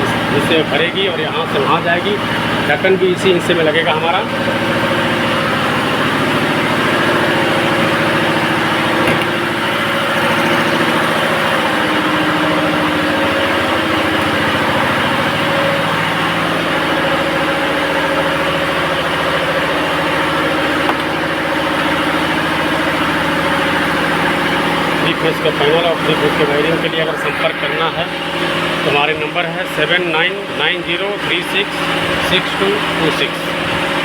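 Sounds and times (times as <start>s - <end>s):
machinery droning: 0.0s - 34.0s.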